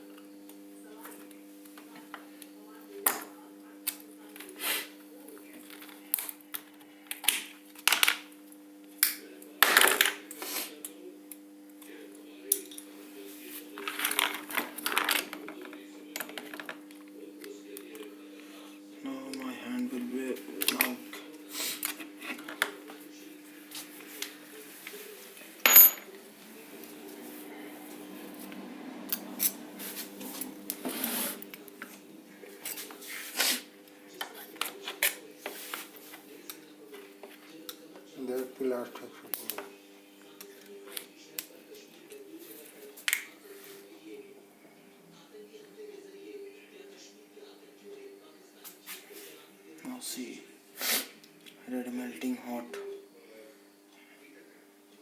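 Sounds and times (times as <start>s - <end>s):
transformer electrical hum: 0.0s - 45.2s.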